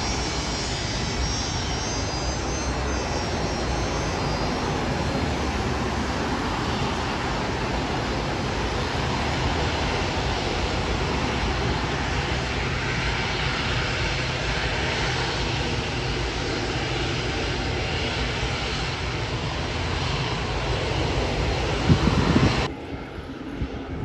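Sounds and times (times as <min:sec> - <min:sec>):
airliner engines roaring: 0:00.0 - 0:24.0.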